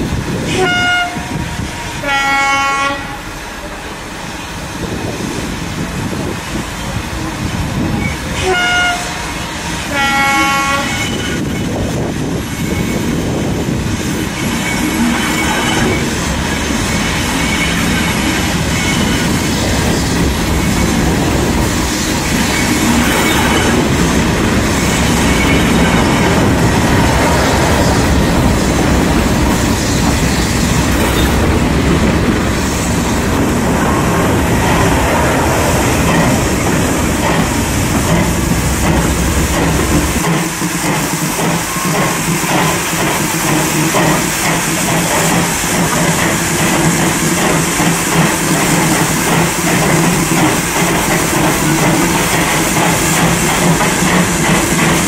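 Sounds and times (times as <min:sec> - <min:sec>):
diesel locomotive running: 0:00.0 - 0:55.0
steam locomotive chuffing: 0:00.0 - 0:55.0.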